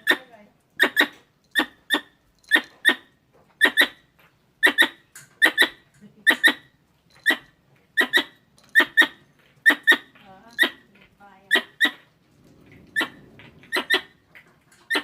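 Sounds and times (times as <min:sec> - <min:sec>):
squirrel chirping: 0:00.0 - 0:12.1, 0:12.9 - 0:14.2.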